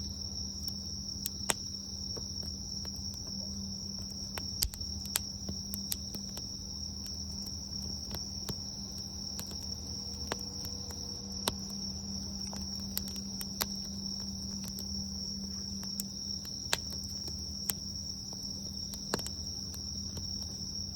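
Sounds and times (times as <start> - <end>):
high-pitched insect trill: 0.0 - 20.9
campfire crackling and popping: 0.4 - 20.9.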